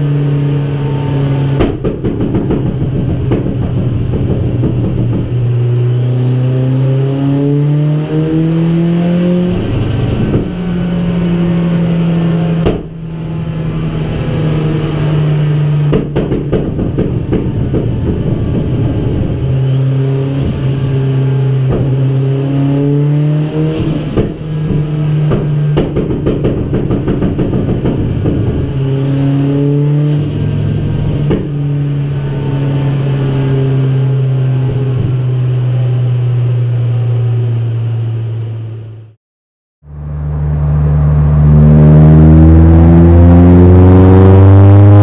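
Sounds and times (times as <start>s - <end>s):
turbocharged car engine under load: 0.0s - 39.2s, 39.8s - 45.0s.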